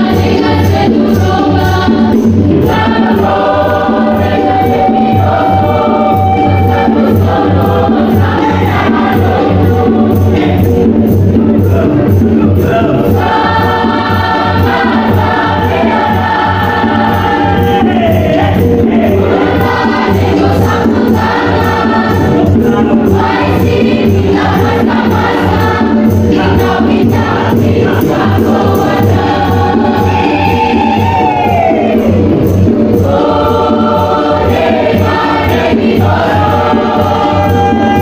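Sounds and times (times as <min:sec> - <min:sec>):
mixed choir singing: 0:00.0 - 0:38.0
steady beat: 0:00.0 - 0:38.0.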